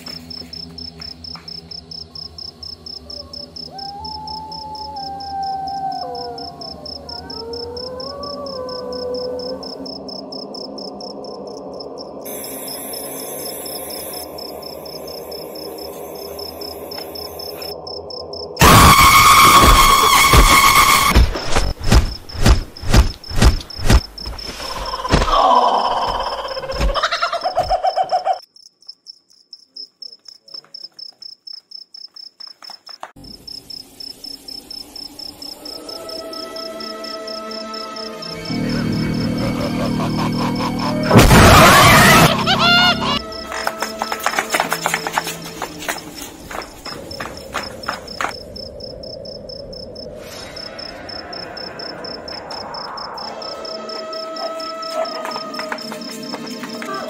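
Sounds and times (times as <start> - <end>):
cricket chirping: 0.0 - 44.1, 45.3 - 57.0.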